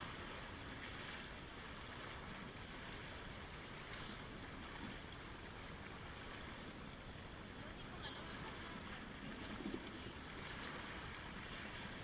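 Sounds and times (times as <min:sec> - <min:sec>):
small waves washing: 0:00.0 - 0:12.0.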